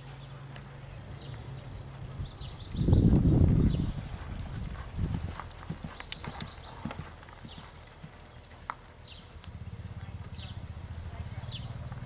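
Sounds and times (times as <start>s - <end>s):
hooves on sand: 0.0s - 10.6s.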